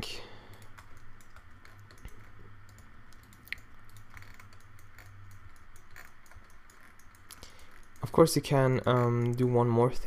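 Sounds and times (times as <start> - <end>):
steady low hum: 0.0 - 10.0
keyboard and mouse clicks: 0.5 - 9.7.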